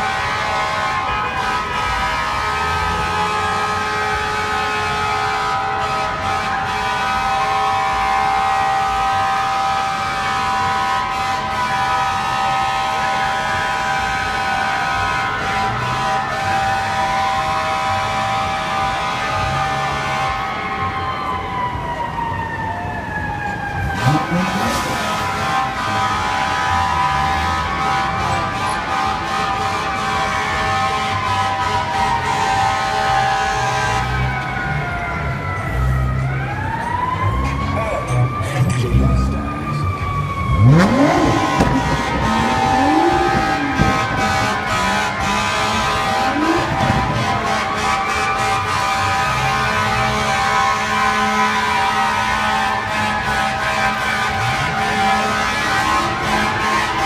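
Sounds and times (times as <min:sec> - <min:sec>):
fire truck air horn: 0:00.0 - 0:57.0
mechanical siren wailing: 0:00.0 - 0:57.0.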